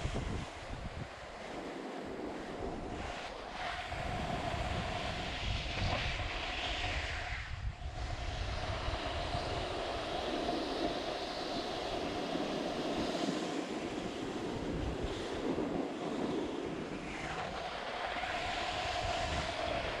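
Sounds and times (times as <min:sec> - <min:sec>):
snow sliding under skis: 0:00.0 - 0:20.0
wind on microphone: 0:00.0 - 0:20.0.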